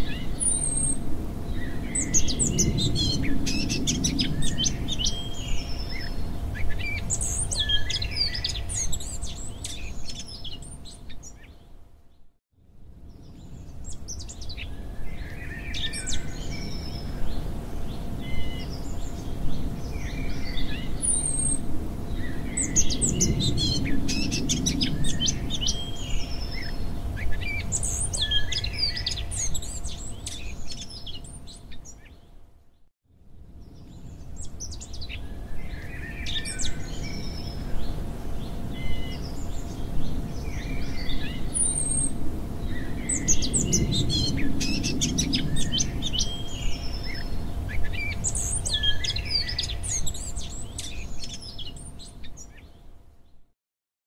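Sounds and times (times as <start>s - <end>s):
songbirds chirping: 0.0s - 12.3s, 13.0s - 32.9s, 33.5s - 53.5s.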